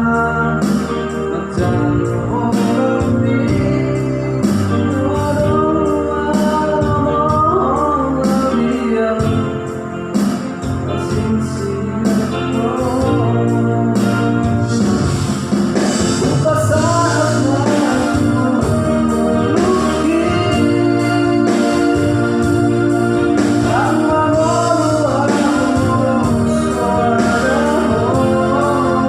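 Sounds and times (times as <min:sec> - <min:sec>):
person singing slowly: 0:00.0 - 0:10.1, 0:10.9 - 0:14.9, 0:16.2 - 0:29.0
electronic keyboard organ chords: 0:00.0 - 0:29.0.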